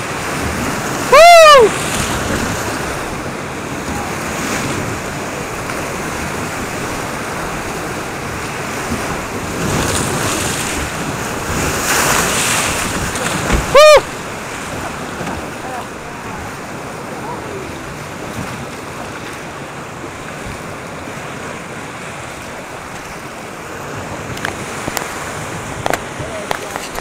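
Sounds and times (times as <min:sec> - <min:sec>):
whitewater rushing and splashing: 0:00.0 - 0:27.0.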